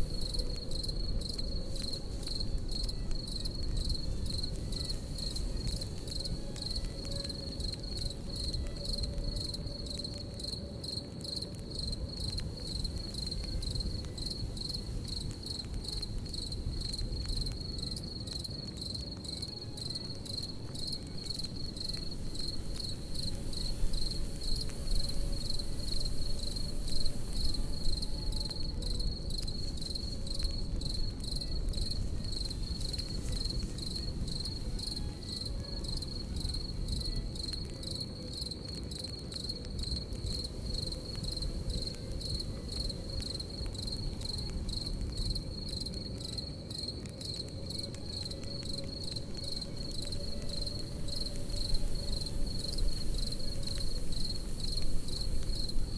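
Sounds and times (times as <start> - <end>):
campfire crackling: 0.0 - 55.9
crickets chirping: 0.0 - 55.9.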